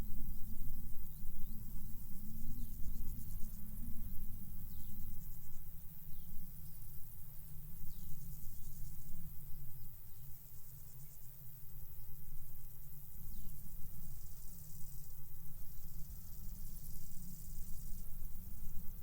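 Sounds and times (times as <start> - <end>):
crickets buzzing: 0.0 - 19.0.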